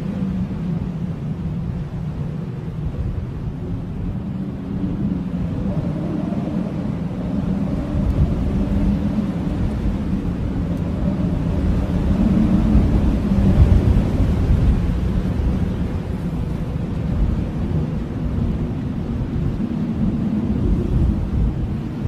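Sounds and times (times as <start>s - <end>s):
blizzard wind howling: 0.0s - 22.0s.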